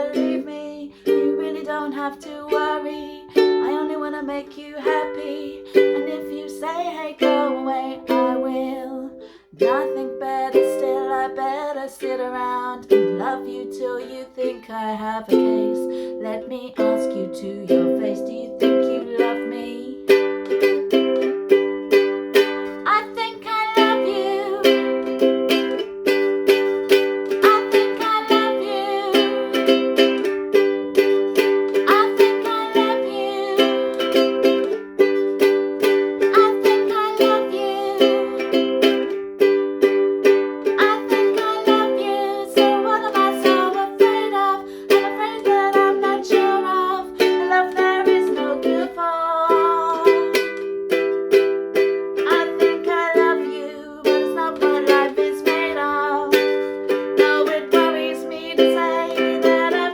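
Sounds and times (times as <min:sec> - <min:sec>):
ukulele strumming: 0:00.0 - 0:59.9.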